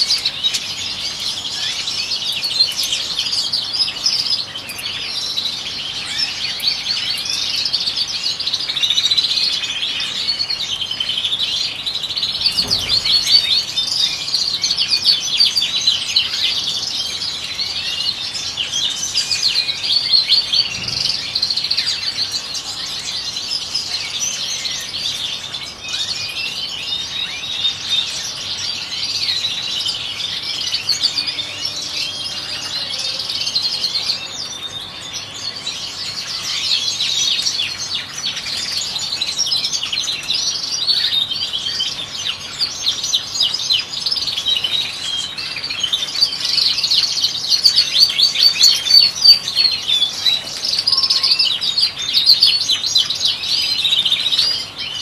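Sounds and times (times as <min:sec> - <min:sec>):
goldfinches singing and twittering: 0:00.0 - 0:55.0.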